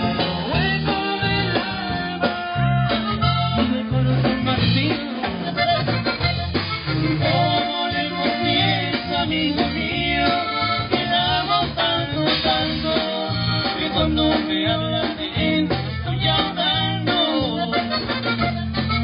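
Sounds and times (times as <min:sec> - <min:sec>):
button accordion melody: 0:00.0 - 0:19.0
live band playing: 0:00.0 - 0:19.0.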